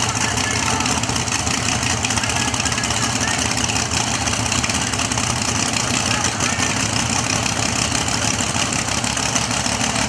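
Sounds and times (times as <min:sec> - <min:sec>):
people talking: 0:00.0 - 0:08.6
race car engine idling: 0:00.0 - 0:10.0.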